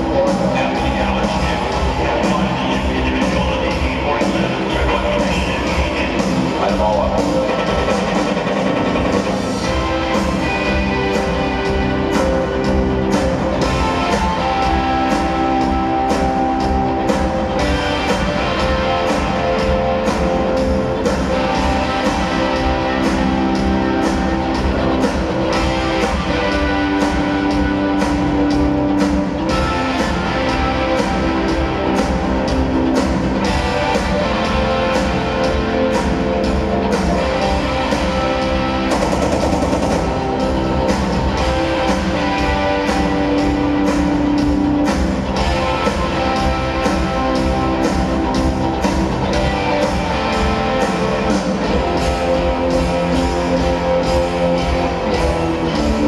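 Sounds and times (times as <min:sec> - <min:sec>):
electric guitars: 0:00.0 - 0:56.0
live rock band playing loud: 0:00.0 - 0:56.0
steady drum beat: 0:00.0 - 0:56.0.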